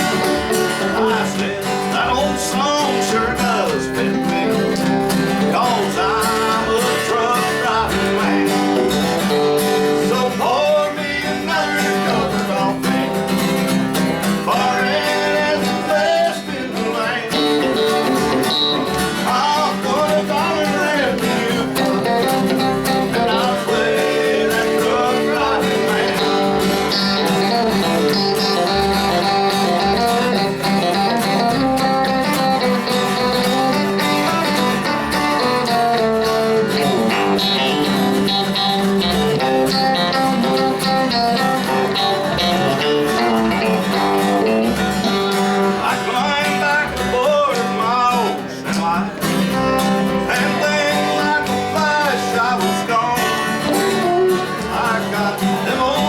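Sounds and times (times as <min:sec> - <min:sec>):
guitar: 0:00.0 - 0:56.0
live country band playing: 0:00.0 - 0:56.0.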